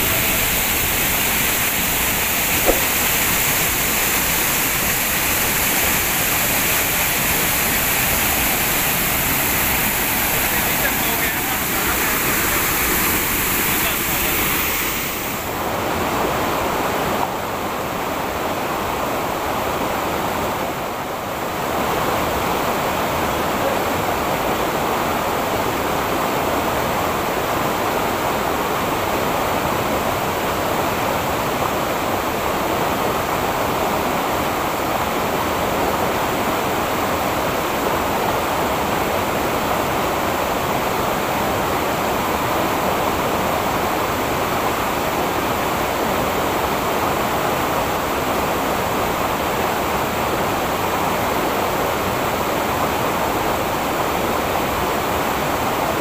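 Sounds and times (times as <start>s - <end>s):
stream pouring over rocks: 0.0s - 56.0s
waterfall rushing: 0.0s - 56.0s.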